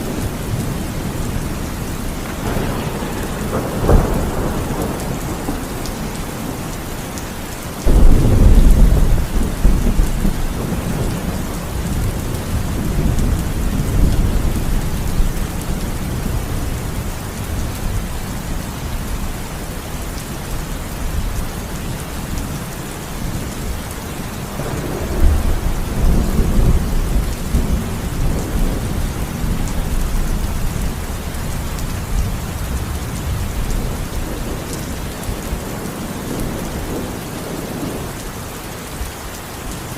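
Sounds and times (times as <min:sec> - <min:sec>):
thunder rumbling: 0:00.0 - 0:19.7, 0:20.5 - 0:39.1
heavy rain: 0:00.0 - 0:39.9.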